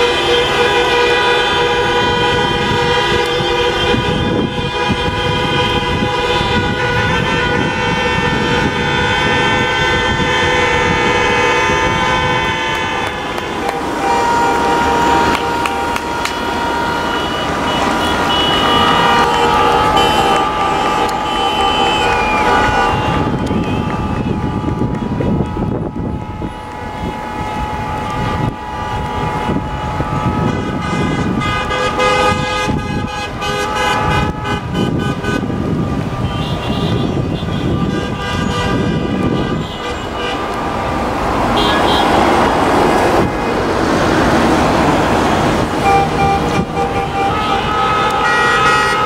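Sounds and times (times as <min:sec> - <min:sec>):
car engines running: 0:00.0 - 0:49.0
car horns honking: 0:00.0 - 0:49.0.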